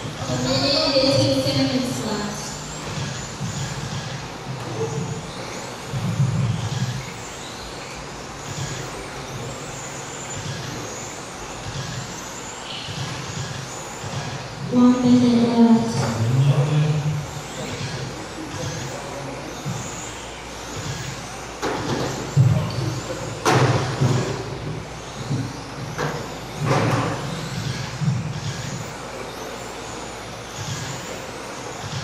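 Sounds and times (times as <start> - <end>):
electric motor whine: 0.0 - 32.0.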